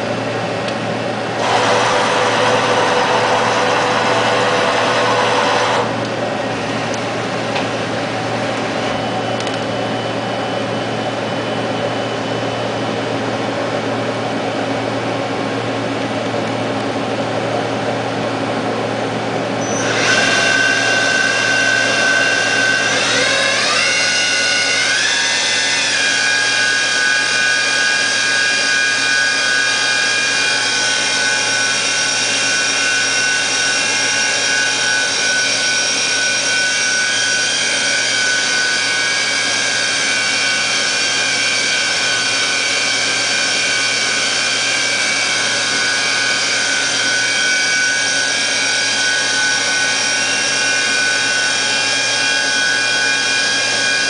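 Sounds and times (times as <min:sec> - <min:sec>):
machine spindle whine: 0:00.0 - 0:54.0.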